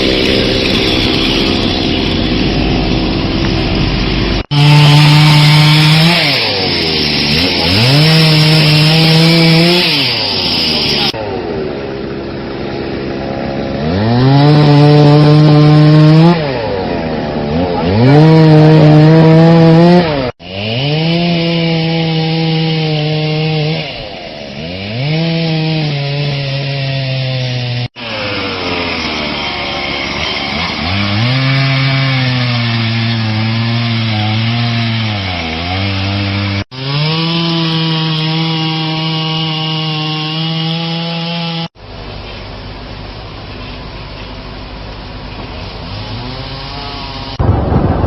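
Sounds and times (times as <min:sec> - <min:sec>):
chainsaw cutting wood: 0:00.0 - 0:11.2, 0:12.4 - 0:41.8, 0:45.4 - 0:47.5.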